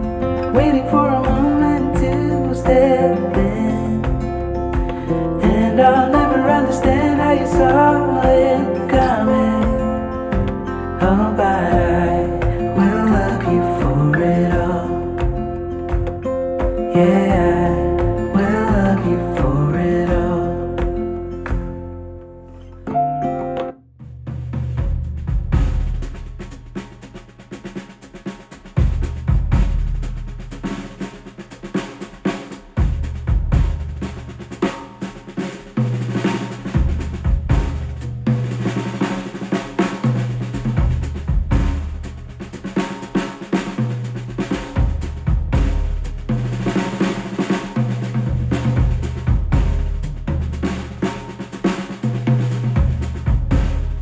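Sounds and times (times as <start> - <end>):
drum kit playing: 0.0 - 22.0, 23.0 - 54.0
deep bass line: 0.0 - 22.6, 24.0 - 26.8, 28.8 - 30.8, 32.8 - 34.4, 36.0 - 39.0, 40.1 - 42.8, 43.8 - 47.1, 47.8 - 51.2, 52.0 - 54.0.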